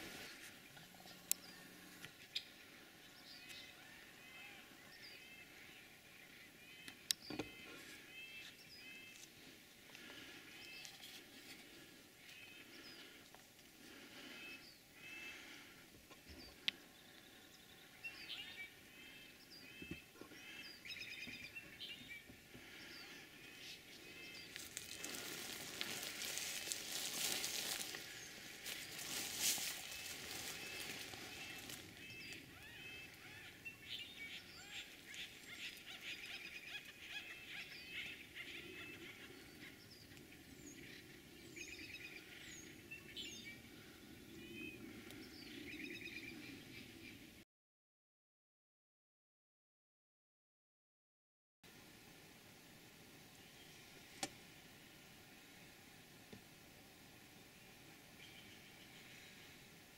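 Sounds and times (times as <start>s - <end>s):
songbirds chirping: 0.0s - 47.4s, 52.1s - 59.9s.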